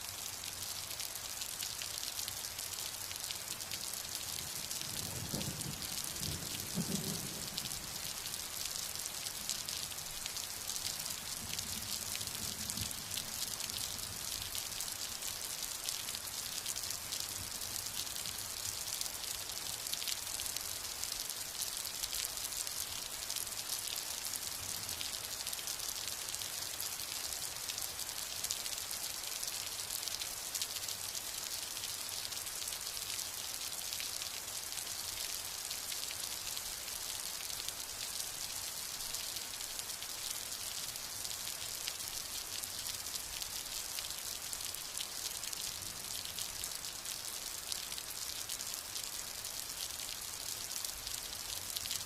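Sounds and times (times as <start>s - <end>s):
steady rain patter: 0.0s - 52.0s.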